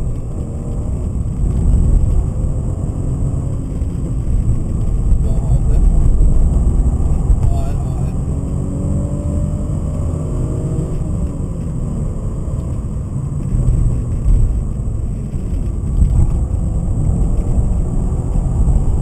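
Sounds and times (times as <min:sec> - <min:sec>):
car engine pulling at speed: 0:00.0 - 0:19.0
road and wind noise: 0:00.0 - 0:19.0.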